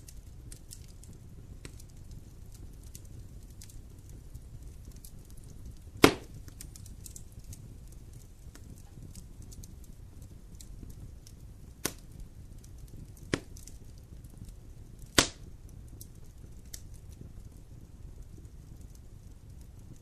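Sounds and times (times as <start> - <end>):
faint fire crackles: 0.0 - 20.0
low rustle of flames: 0.0 - 20.0
sharp pops of burning wood: 0.0 - 20.0.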